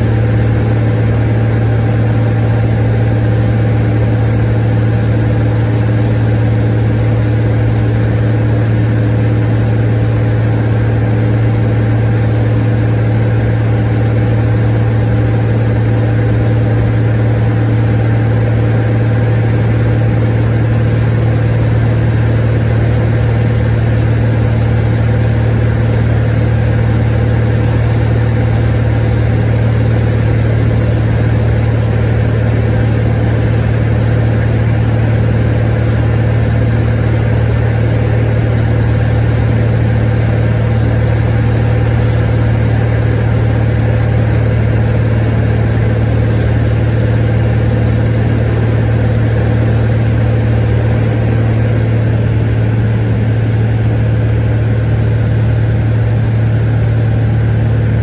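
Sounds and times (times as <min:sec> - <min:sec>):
aircraft engine and propeller drone: 0:00.0 - 0:58.0.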